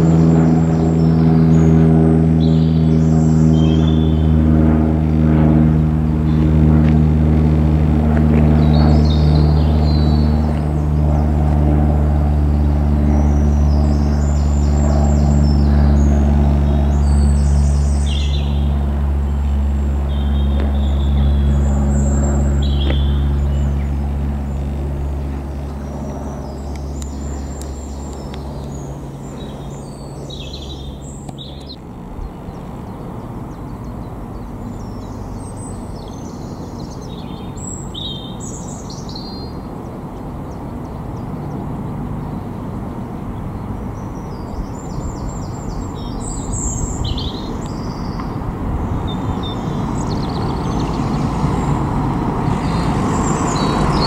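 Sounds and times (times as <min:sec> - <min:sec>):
birds chirping: 0:00.0 - 0:54.0
light aircraft engine droning: 0:00.0 - 0:54.0
second light plane engine: 0:00.0 - 0:54.0.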